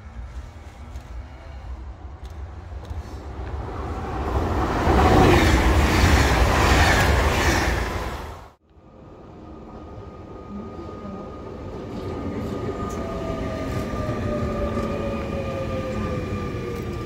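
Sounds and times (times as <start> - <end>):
train wheels on rails: 0.0 - 8.6, 10.7 - 17.0.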